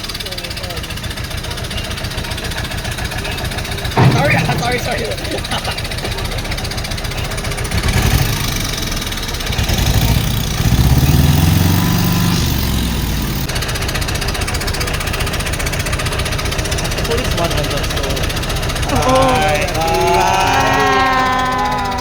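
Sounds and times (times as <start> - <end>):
heavy engine throbbing: 0.9 - 22.0.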